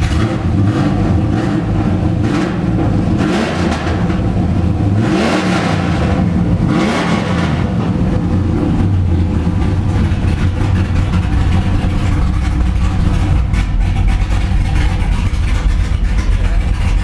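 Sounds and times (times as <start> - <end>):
drag car engine rumbling: 0.0 - 17.0.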